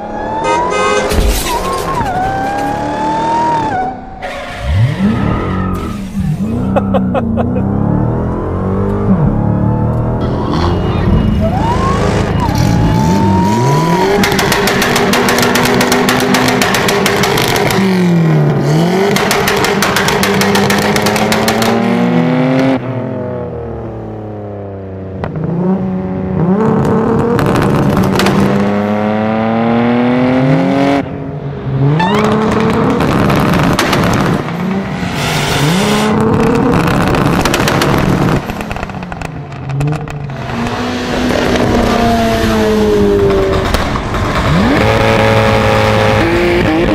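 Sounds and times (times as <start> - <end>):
car engine revving: 2.2 - 24.4, 25.2 - 46.9.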